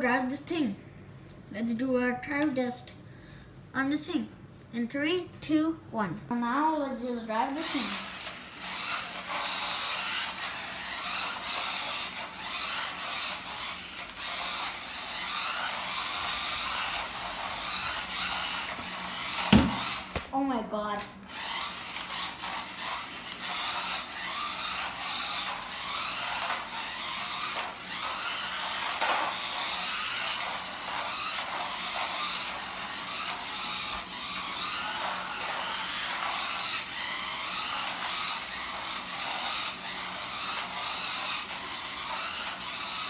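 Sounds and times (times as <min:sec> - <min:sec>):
toy car motor whining: 0:07.0 - 0:20.2, 0:21.3 - 0:43.0.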